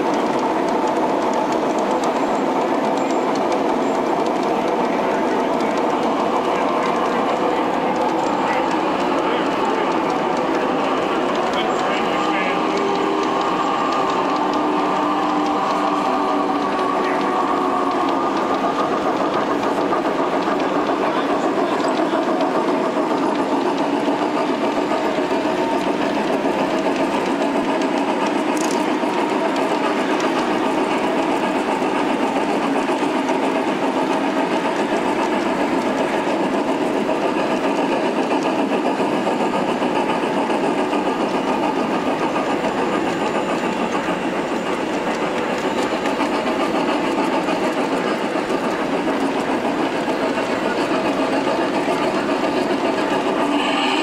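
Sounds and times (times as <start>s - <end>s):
model steam locomotive chuffing: 0.0s - 54.0s
wheels rolling on track: 0.0s - 54.0s.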